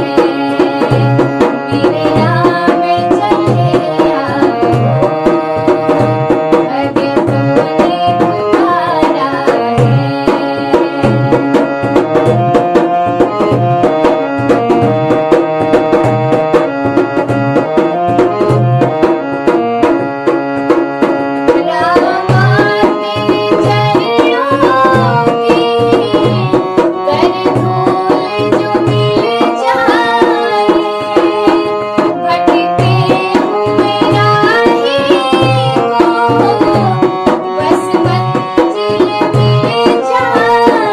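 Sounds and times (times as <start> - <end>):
sustained melodic accompaniment: 0.0 - 40.9
tabla beat: 0.0 - 40.9.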